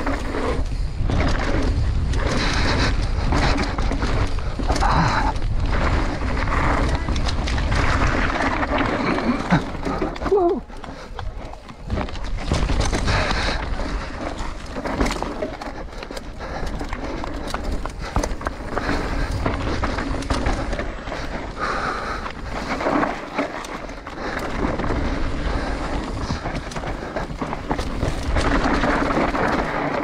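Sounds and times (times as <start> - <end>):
bike clattering over bumps: 0.0 - 30.0
bike tyres rolling on dirt: 0.0 - 30.0.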